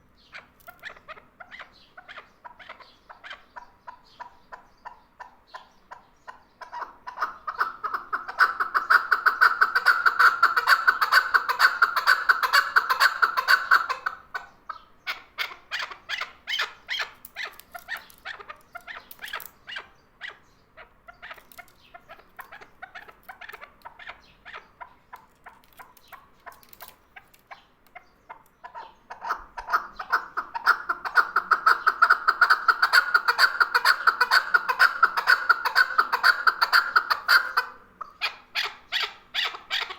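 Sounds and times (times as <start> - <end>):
partridge clucking calls: 0.2 - 39.9.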